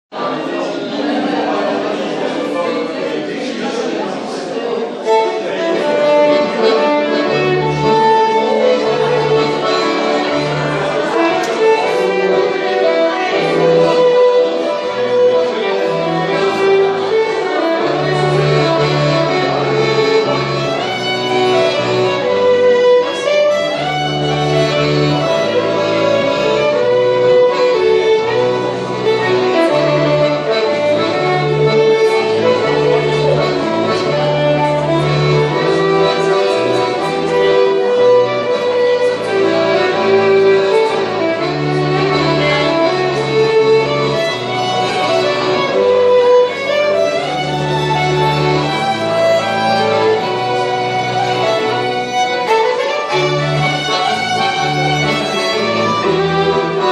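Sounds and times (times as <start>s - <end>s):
low accordion notes: 0.2s - 56.9s
fiddles playing melody: 4.9s - 56.9s.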